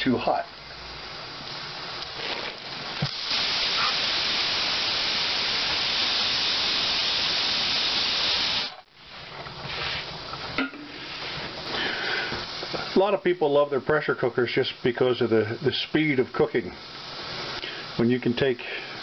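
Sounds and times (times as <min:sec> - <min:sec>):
pressure cooker steam hiss: 0:00.0 - 0:19.0.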